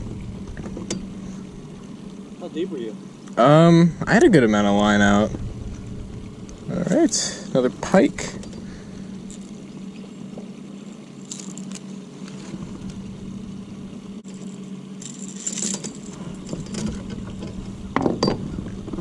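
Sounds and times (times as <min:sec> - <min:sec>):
outboard motor humming: 0:00.0 - 0:19.0.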